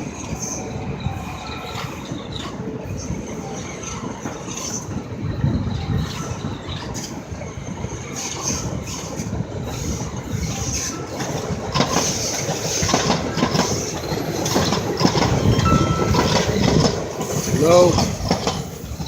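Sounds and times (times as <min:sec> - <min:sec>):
train rumbling on rails: 0:00.0 - 0:19.0
wheels squealing: 0:00.0 - 0:19.0.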